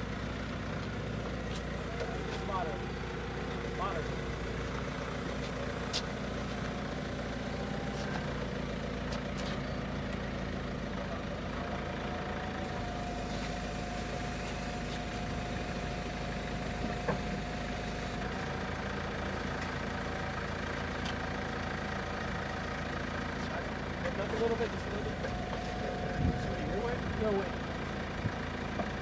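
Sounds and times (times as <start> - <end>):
forklift engine idling: 0.0 - 29.0.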